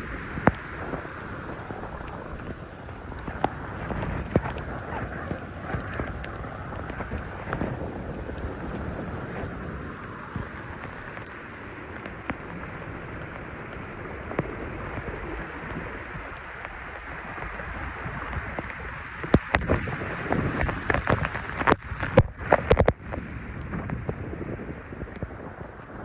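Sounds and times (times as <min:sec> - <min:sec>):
water rushing: 0:00.0 - 0:26.0
wind noise: 0:00.0 - 0:26.0.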